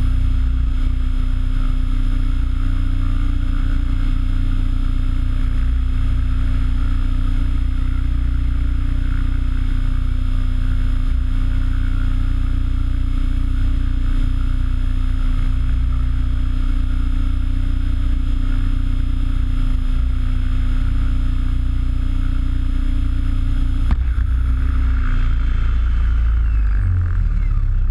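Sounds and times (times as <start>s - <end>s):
electric motor whine: 0.0s - 27.9s
rotor wash rumble: 0.0s - 27.9s.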